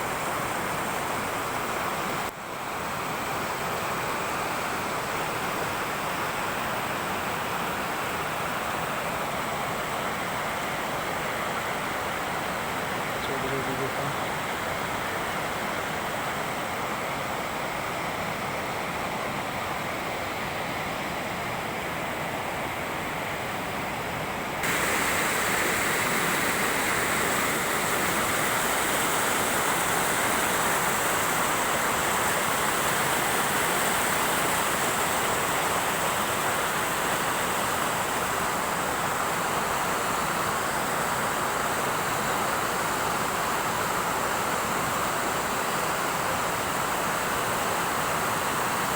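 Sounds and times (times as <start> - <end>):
river rushing over waterfall: 0.0 - 48.9.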